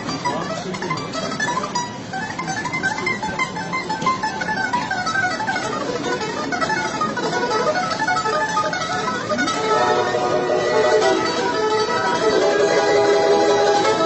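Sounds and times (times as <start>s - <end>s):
plucked string instrumental music: 0.0s - 14.0s.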